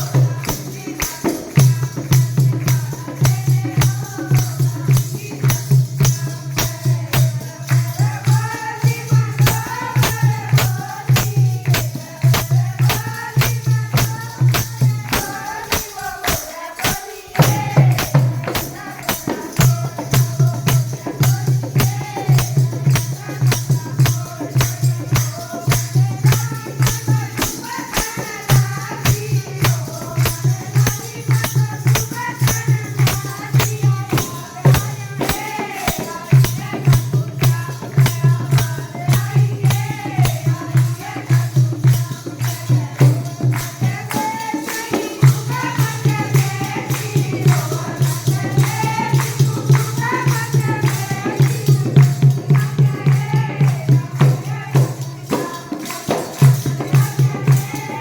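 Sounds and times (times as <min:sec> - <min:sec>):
devotional music with fast beat: 0:00.0 - 0:58.0
jingling tambourine percussion: 0:00.0 - 0:58.0.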